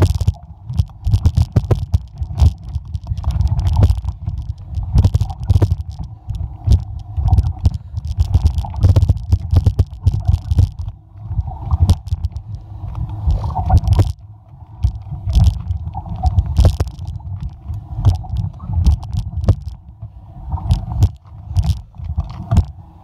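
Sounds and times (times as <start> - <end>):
bike clicks and rattles: 0.0 - 23.0
mountain bike rumbling on trail: 0.0 - 23.0.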